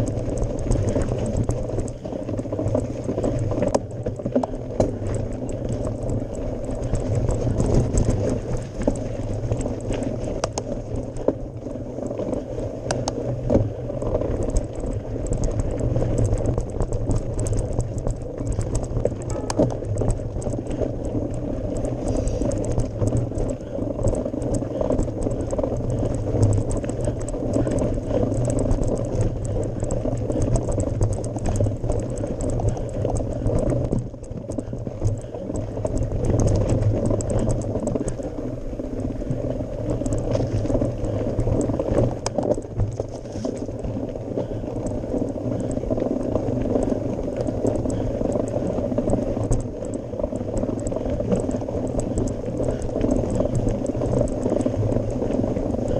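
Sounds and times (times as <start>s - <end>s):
bike rattling: 0.0s - 55.9s
bike tyres rumbling on gravel: 0.0s - 55.9s.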